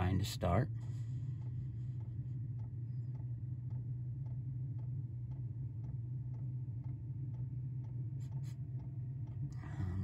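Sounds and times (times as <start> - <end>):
blower fan hum: 0.0 - 10.0.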